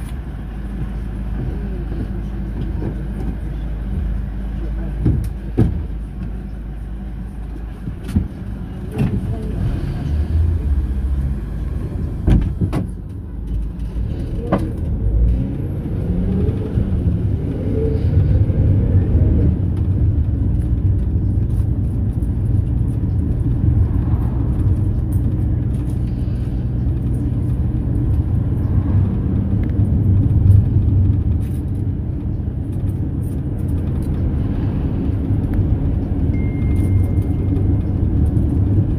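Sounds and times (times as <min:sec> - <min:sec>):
minibus engine and road rumble: 0:00.0 - 0:38.9.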